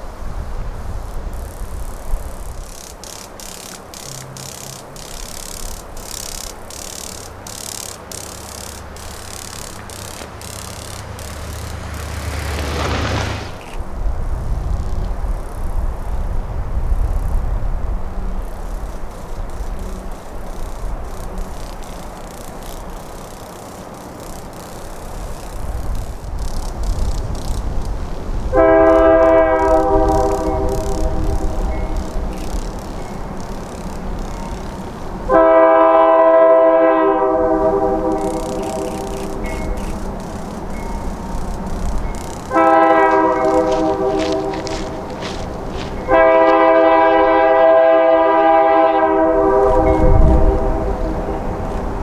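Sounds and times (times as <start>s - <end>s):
distant freight train rumble: 0.0s - 52.0s
insects buzzing: 0.0s - 52.0s.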